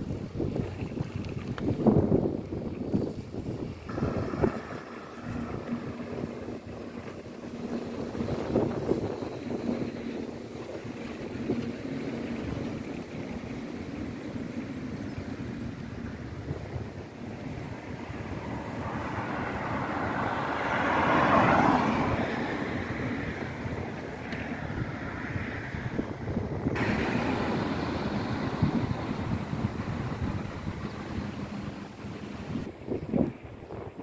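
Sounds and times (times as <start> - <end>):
low outdoor rumble: 0.0 - 21.0, 21.7 - 34.0
car passing: 3.9 - 32.8.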